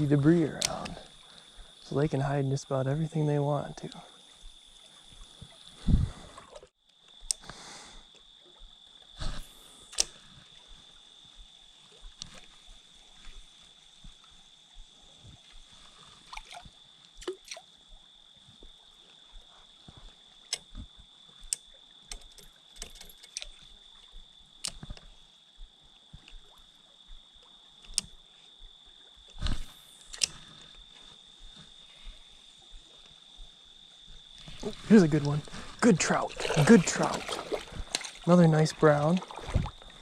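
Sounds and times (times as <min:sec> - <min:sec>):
faint water sound: 0:00.0 - 0:40.0.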